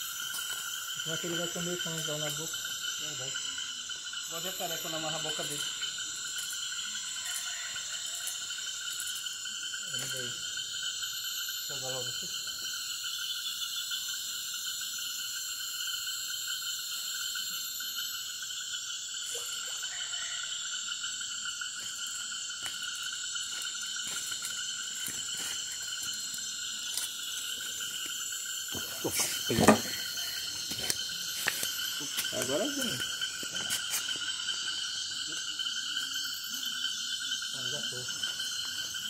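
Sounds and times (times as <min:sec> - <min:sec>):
frogs and insects trilling: 0:00.0 - 0:39.0.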